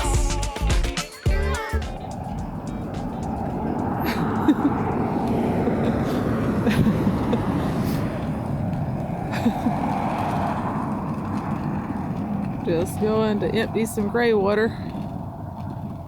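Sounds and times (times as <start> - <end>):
road and engine noise: 0.0 - 16.0.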